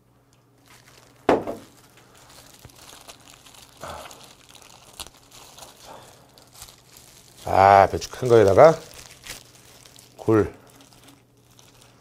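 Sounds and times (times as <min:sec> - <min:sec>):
plastic gloves crinkling: 0:00.3 - 0:12.0.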